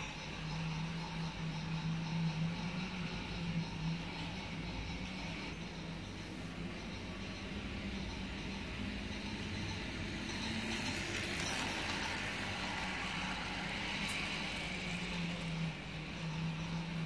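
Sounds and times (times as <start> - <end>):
toy train motor whirring: 0.0 - 17.0
toy train wheels clattering on track: 0.0 - 17.0.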